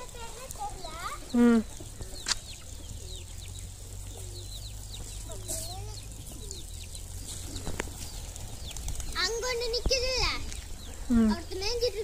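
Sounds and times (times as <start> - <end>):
hens clucking: 0.0 - 11.8
high falling bird chirps: 0.0 - 12.0.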